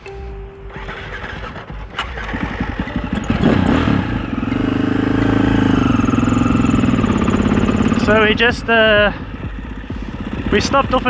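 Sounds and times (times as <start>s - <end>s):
dirt bike engine cranking and idling: 0.0s - 11.0s.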